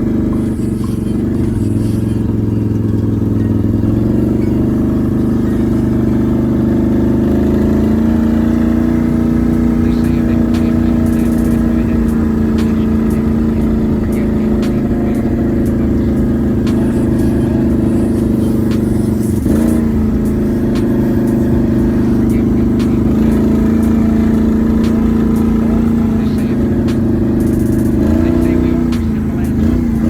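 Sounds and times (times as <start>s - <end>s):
atv engine fast idle: 0.0s - 30.0s.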